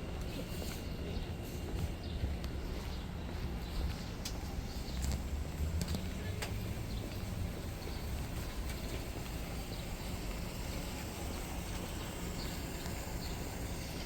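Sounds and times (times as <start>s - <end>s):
low city rumble: 0.0s - 14.0s.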